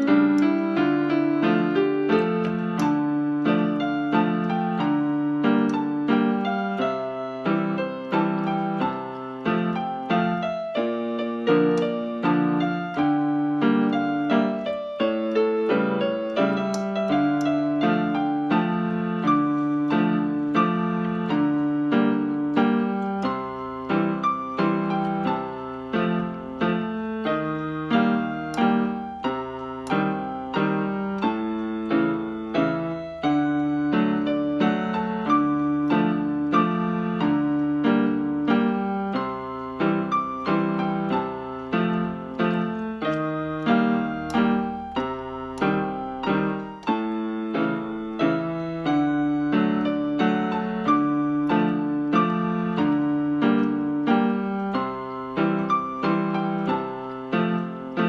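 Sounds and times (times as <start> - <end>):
fingernails clicking on keys: 0.0 - 58.0
keyboard piano melody: 0.0 - 58.0.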